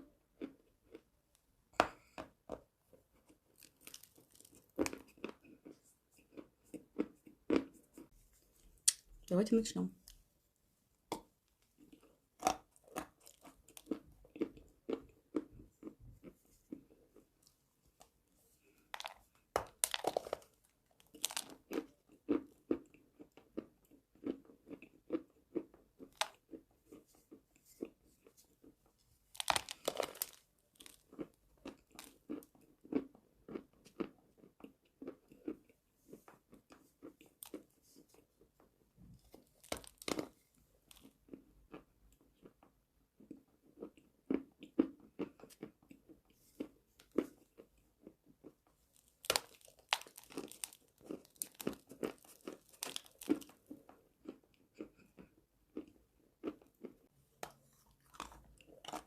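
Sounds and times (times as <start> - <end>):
crunchy chewing: 3.1 - 9.0, 11.6 - 38.6, 39.2 - 59.0.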